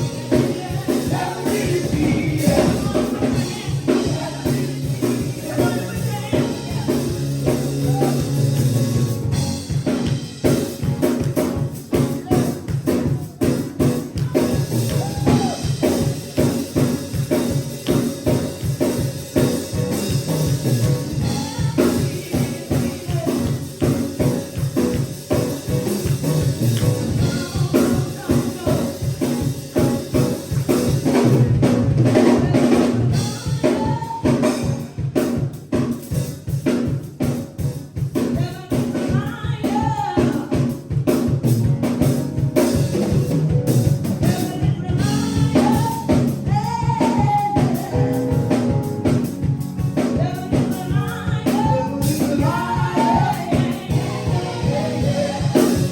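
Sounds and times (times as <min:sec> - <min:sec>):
gospel singing: 0:00.0 - 0:35.2, 0:38.2 - 0:40.8, 0:44.1 - 0:55.9
drum kit beat: 0:00.0 - 0:55.9.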